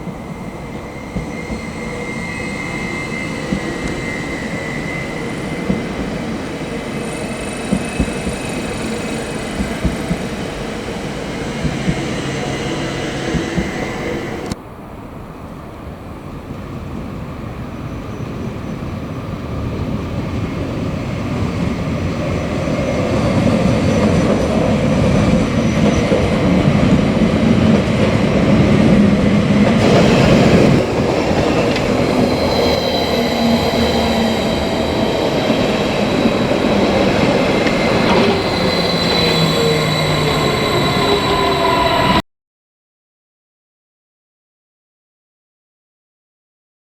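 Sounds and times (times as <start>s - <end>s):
train wheels squealing: 0.0s - 14.6s, 17.6s - 42.2s
train approaching: 0.0s - 42.2s.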